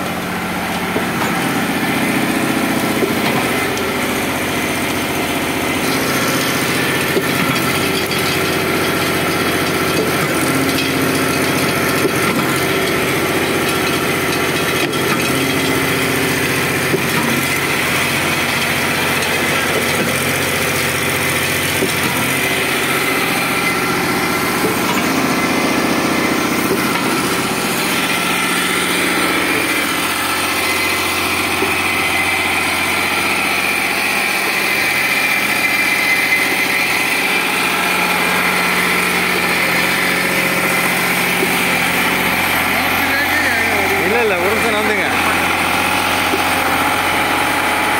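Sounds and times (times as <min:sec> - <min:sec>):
concrete pump engine running: 0:00.0 - 0:47.9
mixer truck running: 0:00.0 - 0:47.9.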